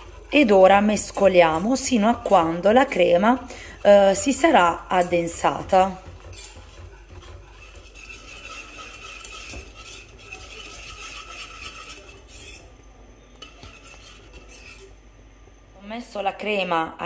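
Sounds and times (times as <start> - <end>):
wire whisk scraping a pot: 0.0 - 15.0.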